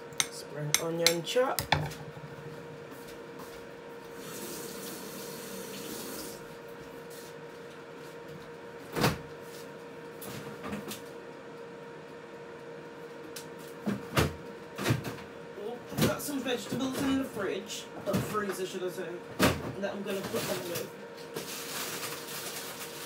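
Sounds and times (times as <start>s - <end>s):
appliance hum: 0.0s - 23.0s.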